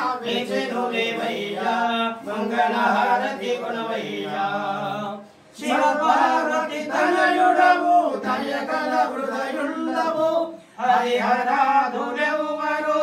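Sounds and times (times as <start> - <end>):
person singing a hymn: 0.0 - 13.0.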